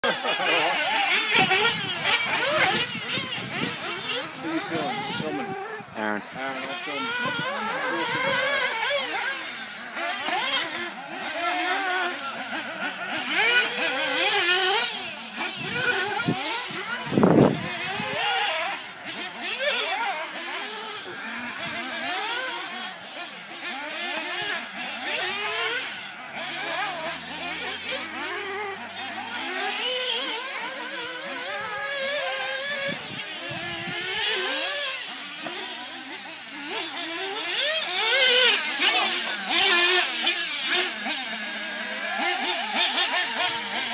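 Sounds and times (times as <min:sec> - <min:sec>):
rc buggy motor revving: 0:00.0 - 0:43.9.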